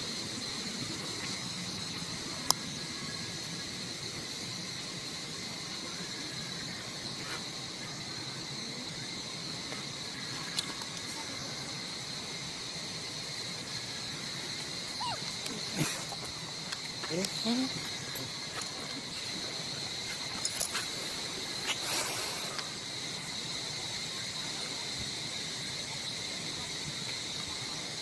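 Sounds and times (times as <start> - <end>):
insect chorus buzzing: 0.0 - 28.0.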